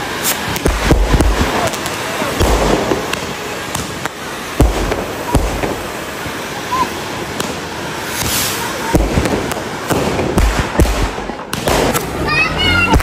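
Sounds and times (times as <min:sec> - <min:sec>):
firecracker bangs: 0:00.0 - 0:13.0
fountain firework hissing: 0:00.0 - 0:13.0.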